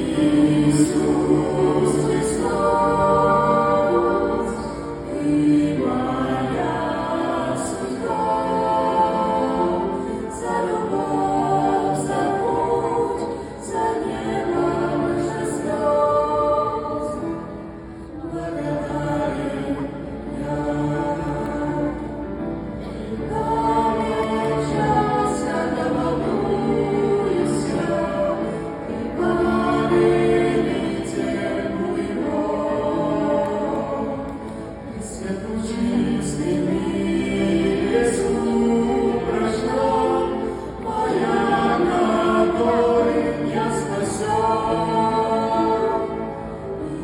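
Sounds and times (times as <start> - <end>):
choir singing gospel song: 0.0 - 47.0.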